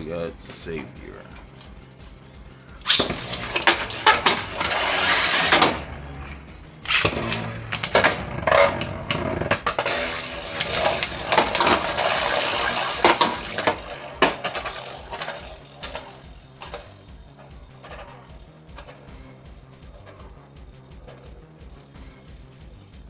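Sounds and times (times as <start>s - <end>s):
spinning tops clashing: 2.8s - 23.0s.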